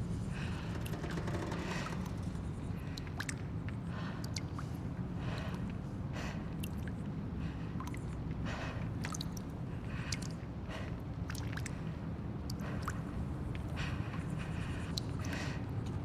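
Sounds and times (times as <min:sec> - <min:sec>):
small drips and ticks: 0:00.4 - 0:16.0.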